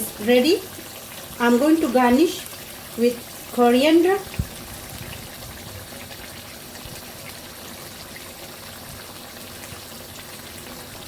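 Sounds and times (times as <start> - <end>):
curry simmering in pan: 0.0 - 11.0.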